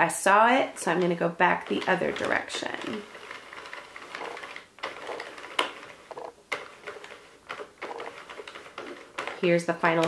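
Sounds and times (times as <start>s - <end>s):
knitting machine rattling: 0.2s - 10.0s
knitting machine clicks: 0.6s - 10.0s.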